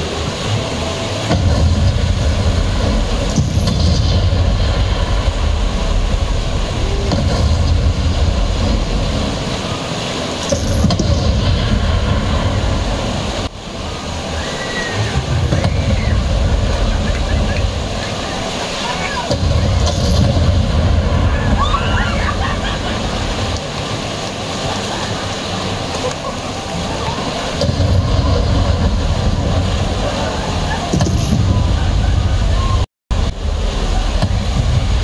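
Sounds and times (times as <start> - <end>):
churning whitewater: 0.0 - 35.0
water jet spraying: 0.0 - 35.0.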